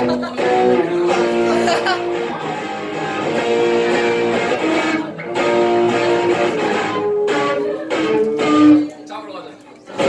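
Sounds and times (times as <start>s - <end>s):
live music with guitar: 0.0s - 9.0s.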